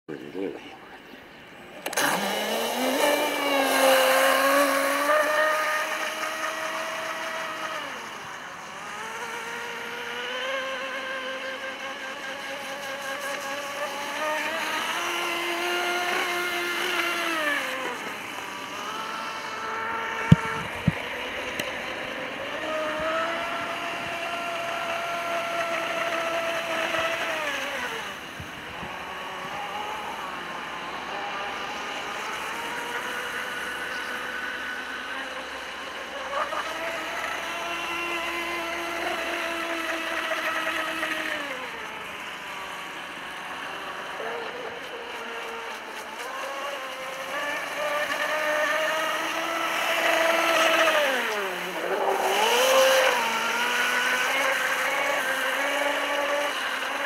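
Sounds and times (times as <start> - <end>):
electric boat motor whine: 0.1 - 57.0.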